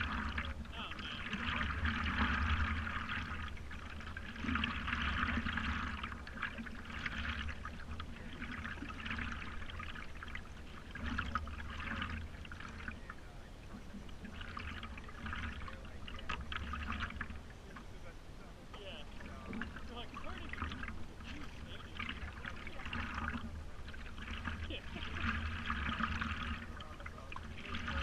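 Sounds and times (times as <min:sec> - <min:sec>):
water sloshing around paddleboard: 0:00.0 - 0:28.0.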